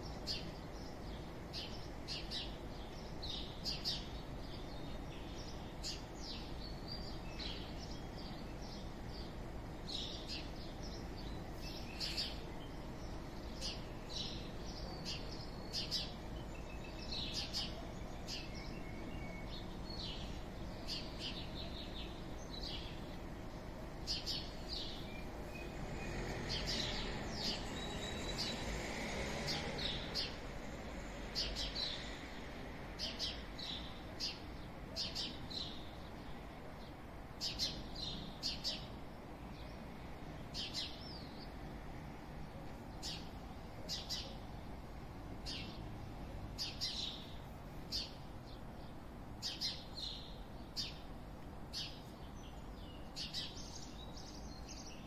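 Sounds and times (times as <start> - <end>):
low hum of town noise: 0.0 - 55.0
small birds chirping: 0.0 - 55.0.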